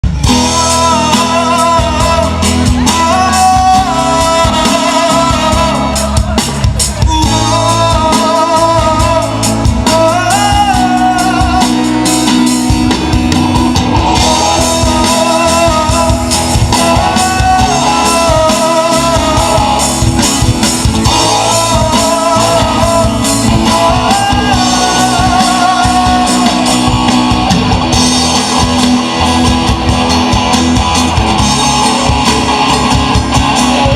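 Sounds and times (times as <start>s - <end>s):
bass line: 0.0s - 33.9s
drum kit: 0.0s - 33.9s
guitar: 0.0s - 33.9s
lead melody: 0.0s - 33.9s
live band music: 0.0s - 33.9s.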